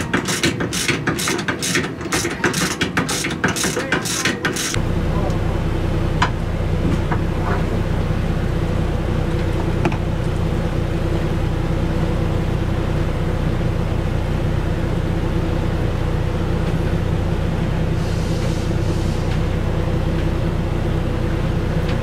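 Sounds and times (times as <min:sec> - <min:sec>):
machinery humming: 0:00.0 - 0:22.0.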